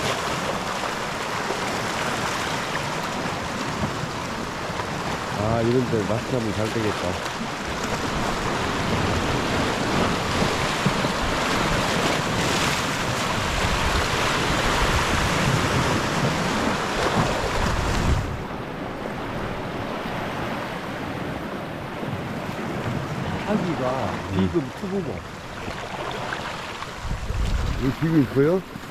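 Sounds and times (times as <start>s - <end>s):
sea waves washing on shore: 0.0s - 28.9s.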